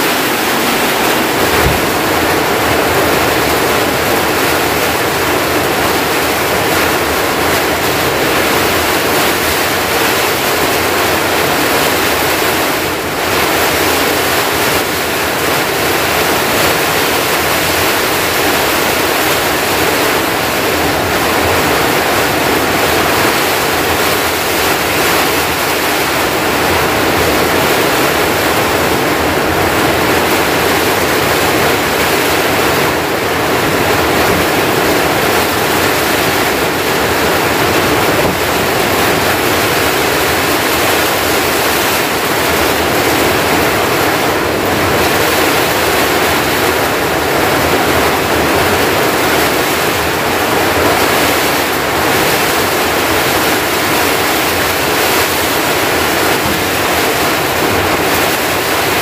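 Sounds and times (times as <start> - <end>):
heavy rain on a wooden hut: 0.0 - 59.0.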